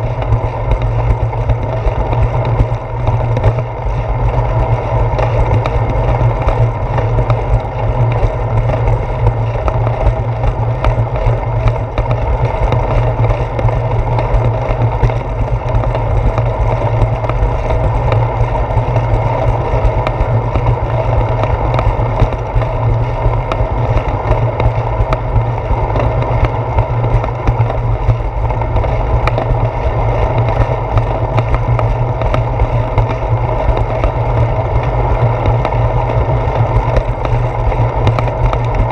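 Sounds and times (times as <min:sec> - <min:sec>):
bicycle tyres rumbling on concrete: 0:00.0 - 0:38.9
small clicks and rattles: 0:00.0 - 0:38.9.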